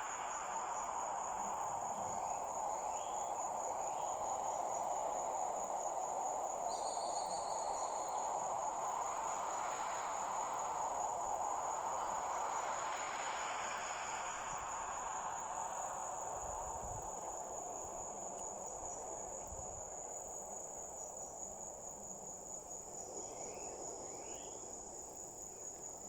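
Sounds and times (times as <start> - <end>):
constant low hiss: 0.0 - 26.0
crickets chirring: 0.0 - 26.0.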